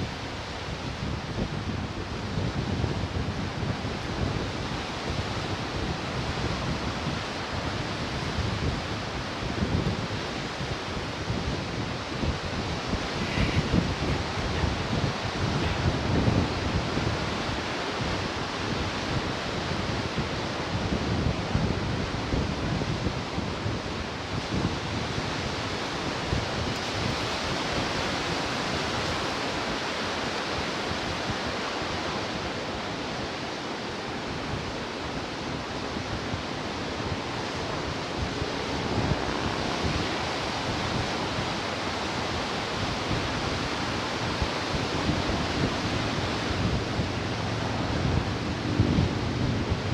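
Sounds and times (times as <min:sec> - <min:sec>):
wind rumbling on microphone: 0:00.0 - 0:49.9
surf washing in: 0:03.9 - 0:20.5, 0:25.2 - 0:49.9.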